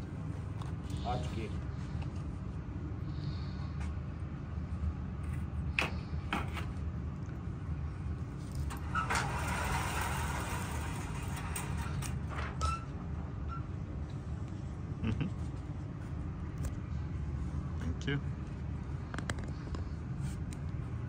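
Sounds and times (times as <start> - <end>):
low rumble of shooting range: 0.0 - 21.0.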